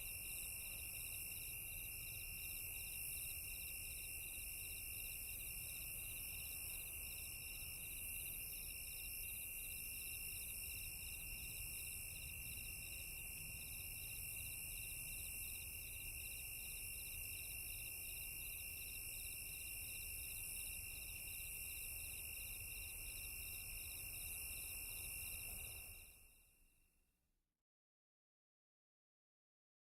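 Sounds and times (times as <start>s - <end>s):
crickets chirping: 0.0s - 26.6s.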